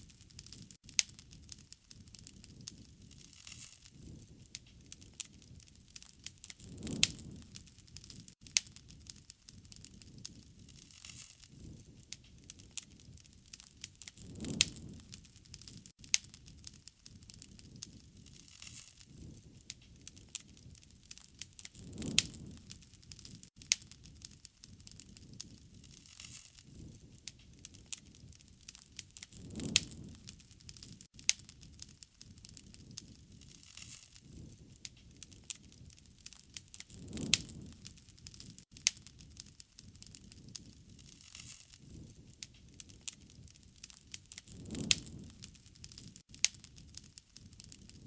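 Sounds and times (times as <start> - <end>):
low rumble of flames: 0.0 - 48.0
wood fire crackling and popping: 0.0 - 48.0.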